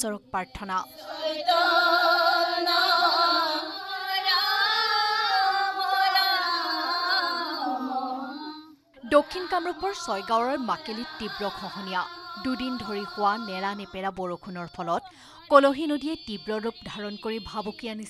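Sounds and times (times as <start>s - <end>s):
women singing a hymn: 0.4s - 18.0s.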